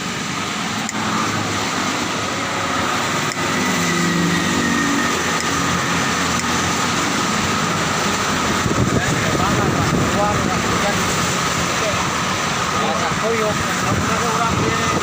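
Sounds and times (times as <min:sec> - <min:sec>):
road traffic in rain: 0:00.0 - 0:15.0
vehicle engine: 0:00.0 - 0:15.0.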